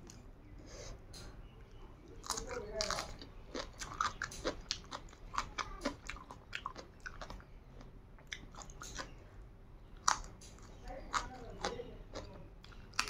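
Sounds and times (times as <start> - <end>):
person chewing food: 1.7 - 9.2, 9.9 - 13.0.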